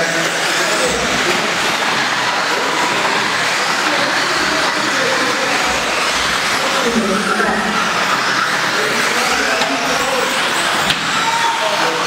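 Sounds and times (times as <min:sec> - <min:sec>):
rc car motor whine: 0:00.0 - 0:12.0.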